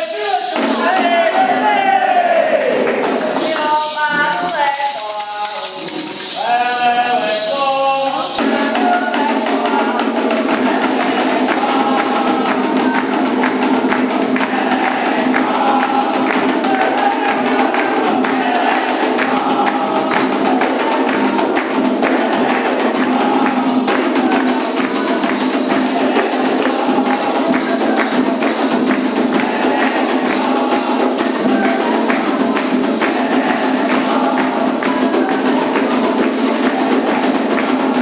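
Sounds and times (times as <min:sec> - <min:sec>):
fast hand percussion: 0:00.0 - 0:38.0
group singing: 0:00.0 - 0:38.0
single voice singing: 0:00.0 - 0:38.0.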